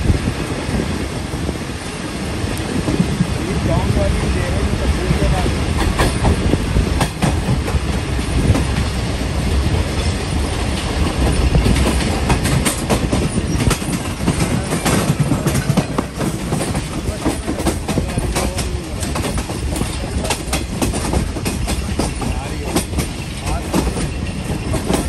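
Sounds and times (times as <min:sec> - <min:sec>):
steady low rumble: 0:00.0 - 0:22.6
train wheels clicking over rail joints: 0:00.3 - 0:25.0.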